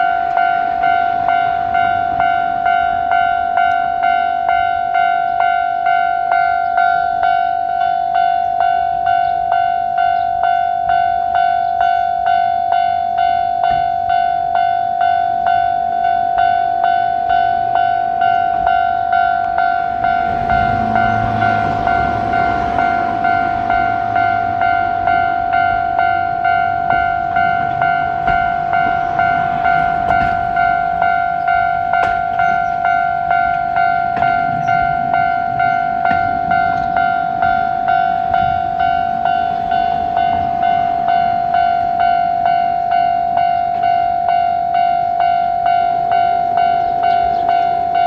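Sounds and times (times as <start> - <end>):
level-crossing warning bell: 0.0 - 48.0.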